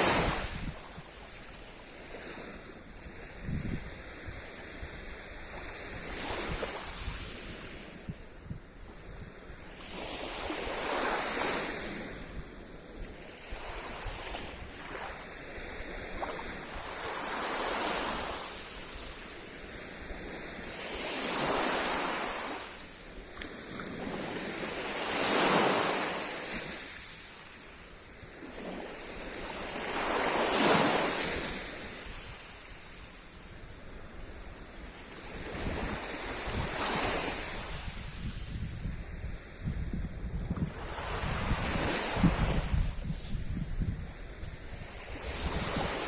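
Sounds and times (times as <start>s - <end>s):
waves breaking: 0.0s - 8.1s, 9.5s - 38.8s.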